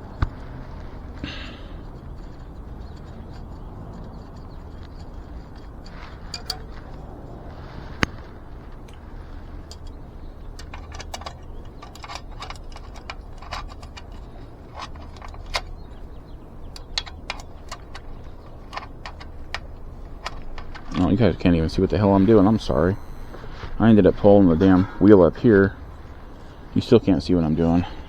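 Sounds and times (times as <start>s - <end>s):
metal tools clinking: 1.2s - 28.0s.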